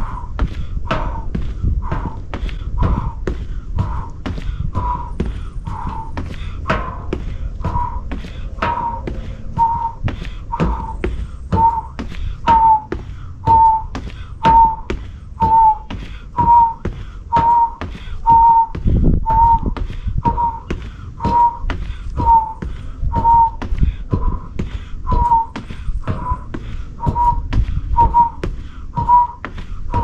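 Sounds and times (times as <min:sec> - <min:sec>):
sneakers tapping on concrete: 0:00.0 - 0:30.0.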